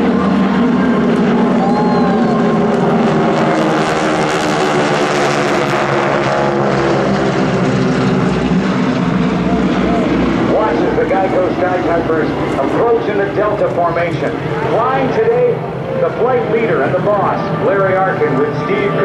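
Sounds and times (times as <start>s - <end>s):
propeller planes droning overhead: 0.0s - 19.0s.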